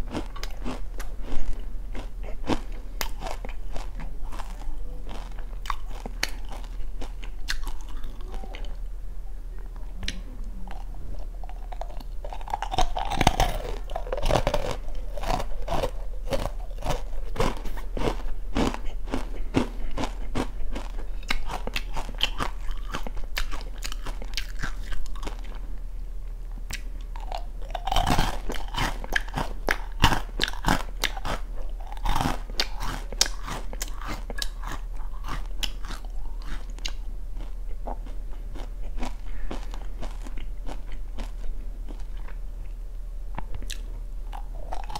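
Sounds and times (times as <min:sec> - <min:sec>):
crunching hard snack: 0:00.0 - 0:08.4, 0:10.7 - 0:25.6, 0:27.2 - 0:42.2, 0:44.4 - 0:44.9.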